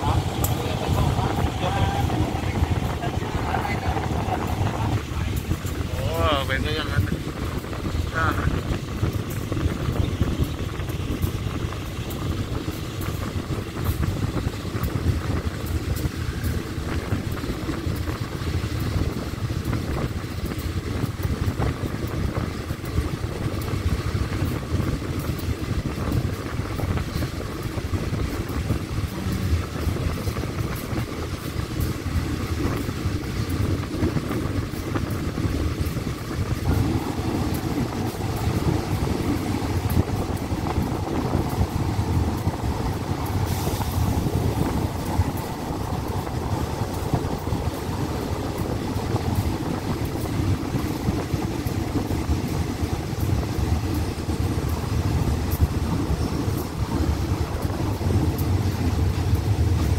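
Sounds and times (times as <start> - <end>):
rushing air: 0.0 - 59.9
train wheels rumbling on rails: 0.0 - 59.9.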